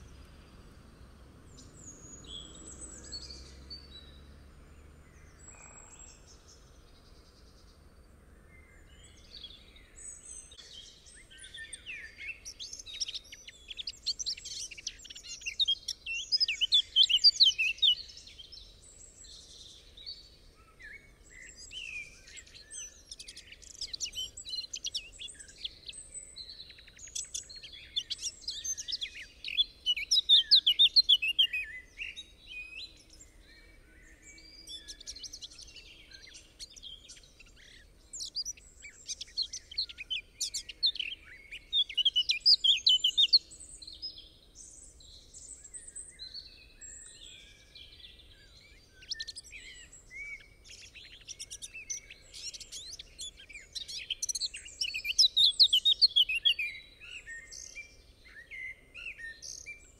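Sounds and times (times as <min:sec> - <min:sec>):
faint background hiss: 0:00.0 - 0:59.9
songbird rapid high chirping: 0:00.0 - 0:59.9.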